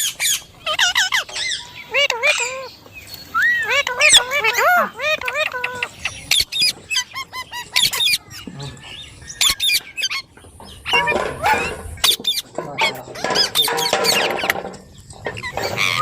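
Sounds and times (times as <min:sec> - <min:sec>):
parrot squawking and chattering: 0:00.0 - 0:16.0.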